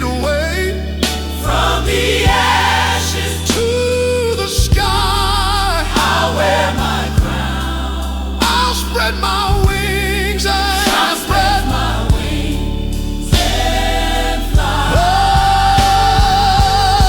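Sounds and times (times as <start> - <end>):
steady bass: 0.0 - 17.0
drum beats: 1.0 - 5.2, 5.8 - 10.1, 10.9 - 17.0
choir singing held notes: 1.0 - 17.0.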